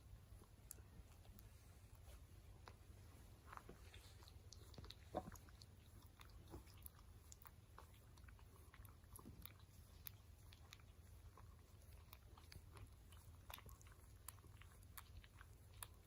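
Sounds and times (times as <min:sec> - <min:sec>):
dog licking skin: 0:00.1 - 0:16.0.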